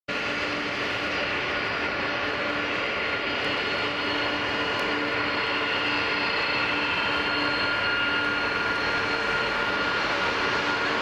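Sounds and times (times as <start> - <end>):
jet engines running: 0.1 - 11.0.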